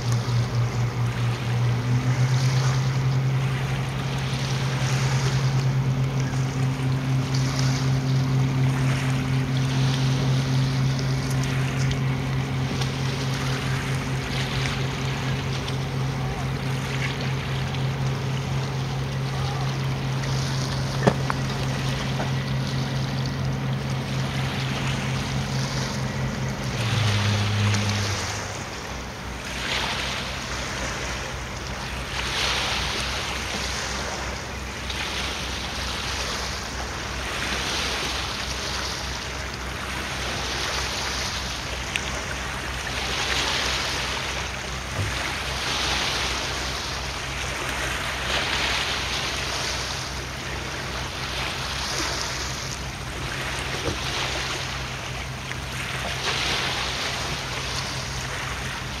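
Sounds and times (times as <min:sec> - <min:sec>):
ferry engines humming: 0:00.0 - 0:59.0
water washing: 0:00.0 - 0:59.0.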